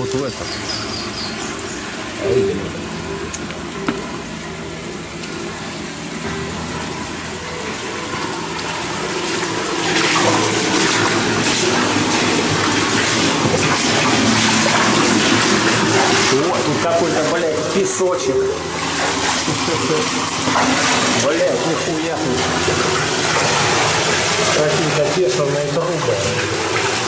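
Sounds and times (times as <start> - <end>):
water rushing through culvert: 0.0 - 27.0.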